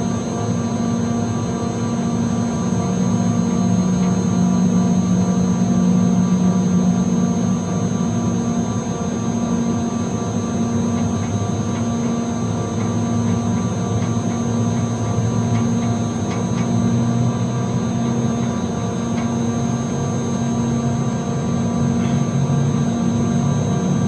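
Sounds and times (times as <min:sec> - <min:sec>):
condenser fans droning: 0:00.0 - 0:24.0.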